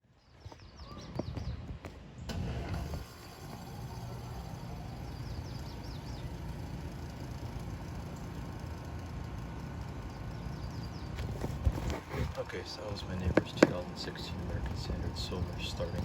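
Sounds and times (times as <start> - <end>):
birds chirping: 0.0 - 16.0
air conditioner humming: 2.2 - 16.0.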